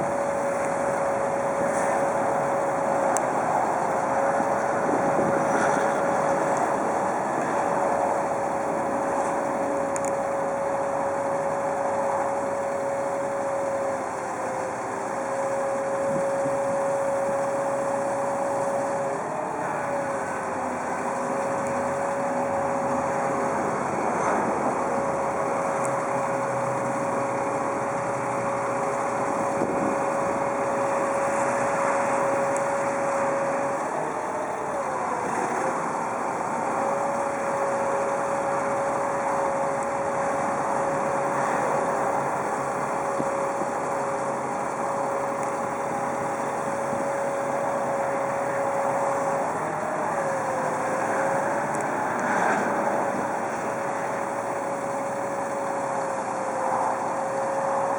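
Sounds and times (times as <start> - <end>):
steady whine: 0.0 - 57.9
truck engine running: 0.0 - 57.9.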